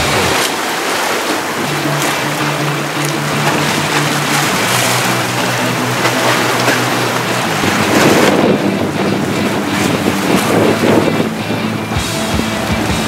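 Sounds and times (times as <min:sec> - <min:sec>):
sea waves washing: 0:00.0 - 0:13.0
wind gusting across microphone: 0:00.0 - 0:13.0.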